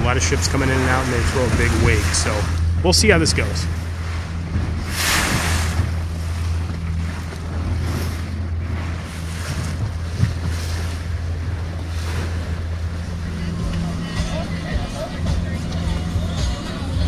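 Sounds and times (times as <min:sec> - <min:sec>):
boat motor droning: 0:00.0 - 0:17.0
water splashing along hull: 0:00.0 - 0:17.0
wind buffeting microphone: 0:00.0 - 0:17.0.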